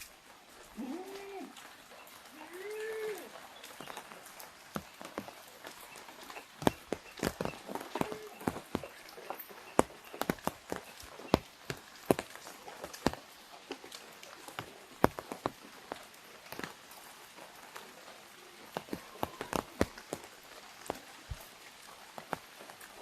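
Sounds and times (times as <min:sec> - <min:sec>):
rain hiss: 0:00.0 - 0:23.0
raindrops tapping on umbrella: 0:00.0 - 0:23.0.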